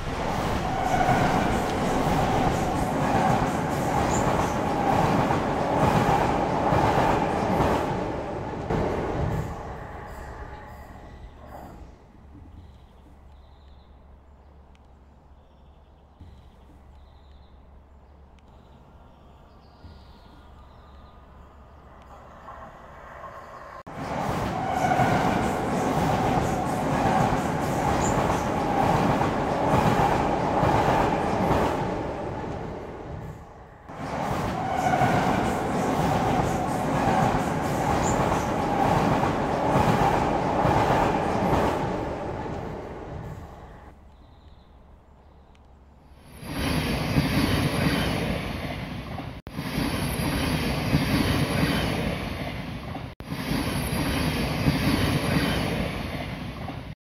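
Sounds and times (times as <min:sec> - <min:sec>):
train rumbling on rails: 0:00.0 - 0:44.1, 0:45.9 - 0:57.0.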